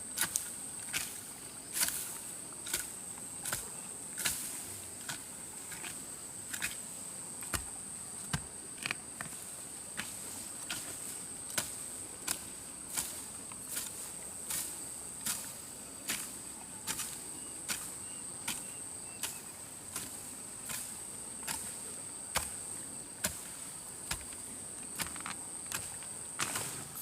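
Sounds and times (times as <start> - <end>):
hand tool chopping soil: 0.2 - 6.8, 7.4 - 27.0.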